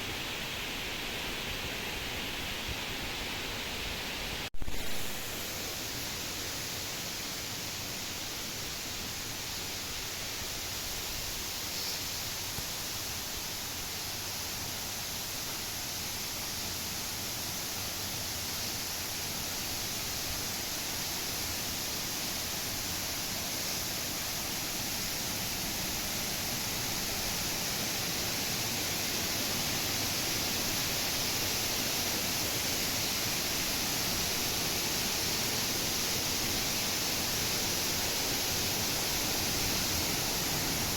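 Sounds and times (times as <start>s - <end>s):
rushing water hiss: 0.0s - 40.9s.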